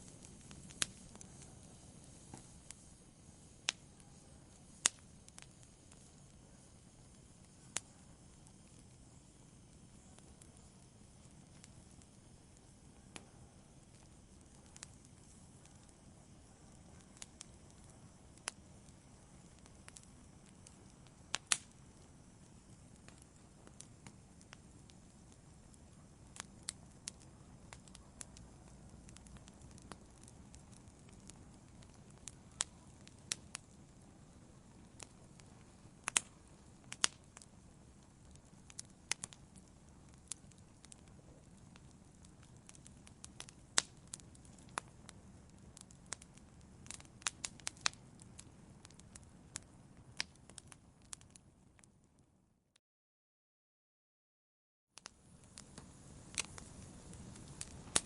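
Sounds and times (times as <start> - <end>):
wood fire crackling: 0.0 - 52.2, 55.0 - 58.0.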